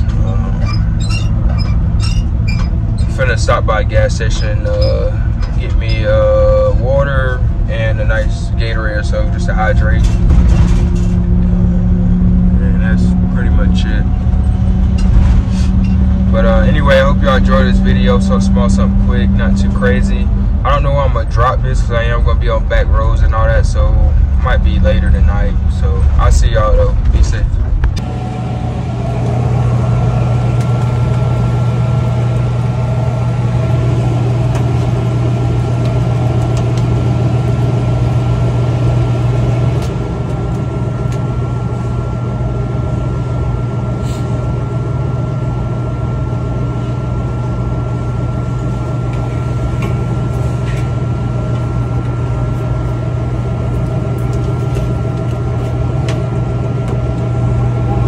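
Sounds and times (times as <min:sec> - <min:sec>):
fan motor humming: 0:00.0 - 0:58.0.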